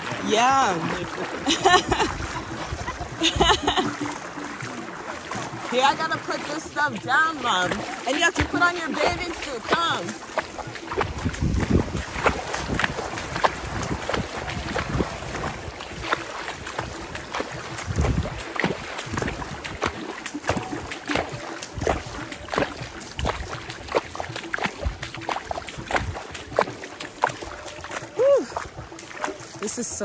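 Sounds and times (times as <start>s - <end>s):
low thumps in water: 0.0s - 30.0s
seawater splashing and lapping: 0.0s - 30.0s.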